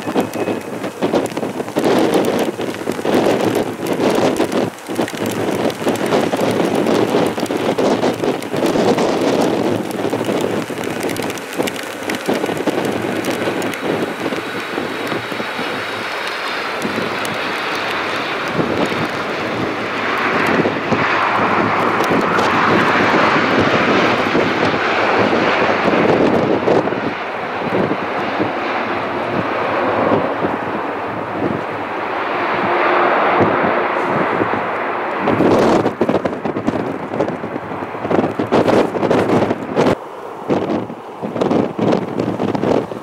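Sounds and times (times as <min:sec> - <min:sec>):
jet engine noise: 0:00.0 - 0:43.0.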